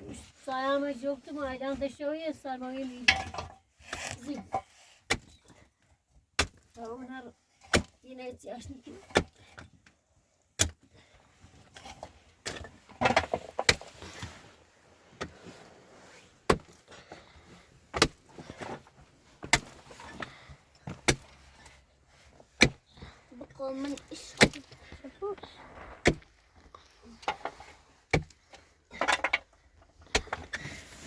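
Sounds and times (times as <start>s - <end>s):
faint rustling and handling noise: 0.0s - 31.0s.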